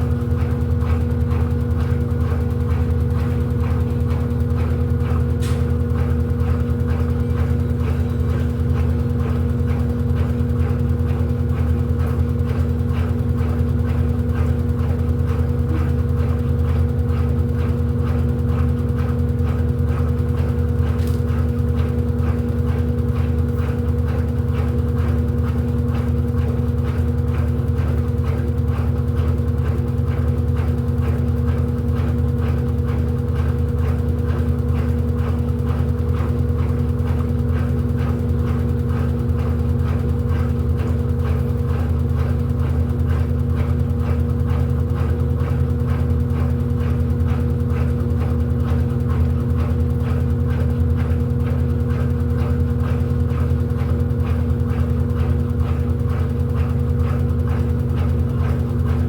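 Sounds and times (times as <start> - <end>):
washing machine motor hum: 0.0 - 59.0
washing machine swishing: 0.0 - 59.0.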